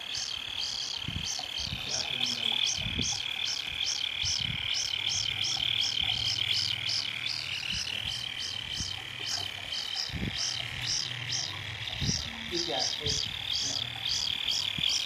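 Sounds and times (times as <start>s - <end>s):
bird chick chirping: 0.0s - 15.0s.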